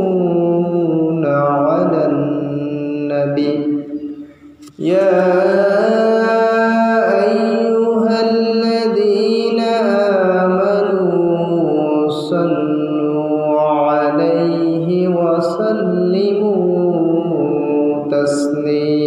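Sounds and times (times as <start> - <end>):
person chanting melodic recitation: 0.0 - 19.0.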